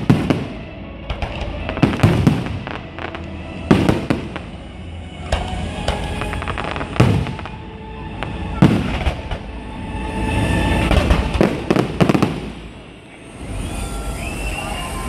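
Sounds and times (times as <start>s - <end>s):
firework bangs and crackling: 0.0s - 9.5s, 10.3s - 15.0s.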